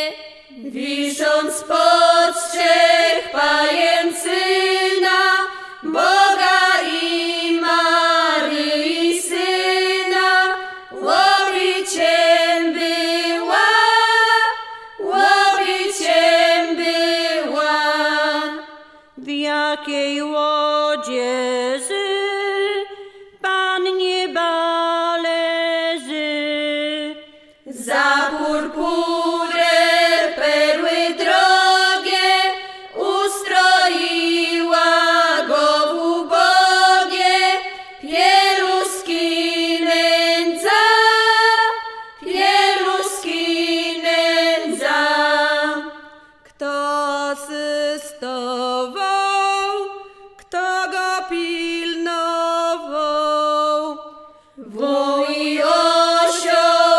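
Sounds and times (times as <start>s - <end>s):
women singing in harmony: 0.0s - 56.9s.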